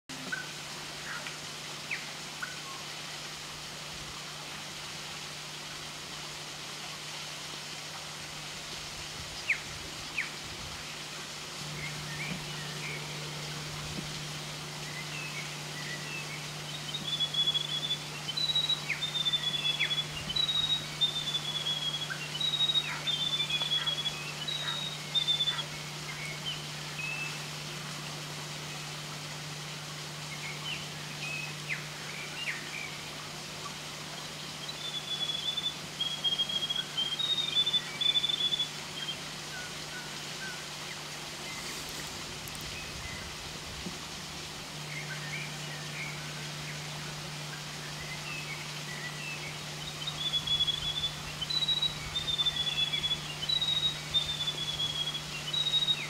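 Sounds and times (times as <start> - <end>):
steady low hum: 7.8 - 56.0
songbirds chirping: 9.3 - 56.0.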